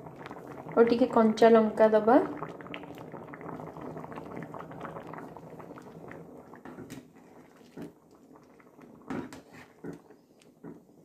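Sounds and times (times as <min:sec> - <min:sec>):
curry bubbling in frying pan: 0:00.0 - 0:11.0.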